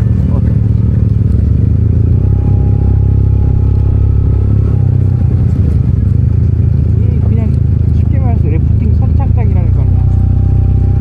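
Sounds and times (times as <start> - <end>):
scooter engine drone: 0.0 - 11.0.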